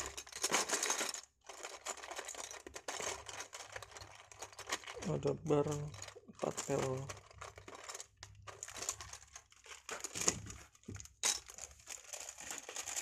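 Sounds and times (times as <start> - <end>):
plastic tub clattering: 0.0 - 11.6
plastic parts clicking and clattering: 0.0 - 13.0.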